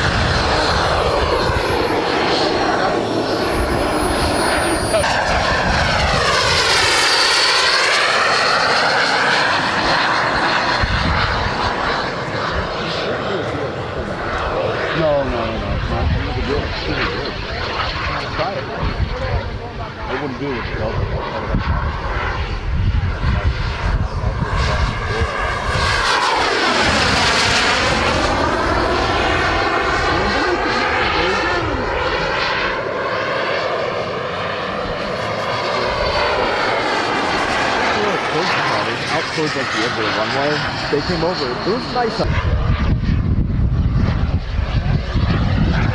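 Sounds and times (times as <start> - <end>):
model jet turbine whine: 0.0 - 45.9.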